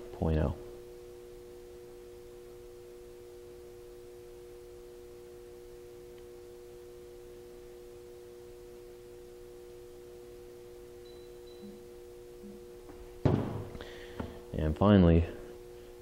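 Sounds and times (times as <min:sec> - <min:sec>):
steady two-tone hum: 0:00.0 - 0:16.0.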